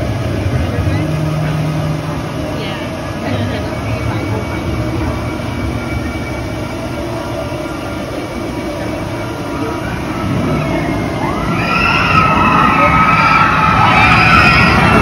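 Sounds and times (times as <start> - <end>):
roller coaster rumble: 0.0 - 15.0
high wavering squeals: 0.1 - 15.0.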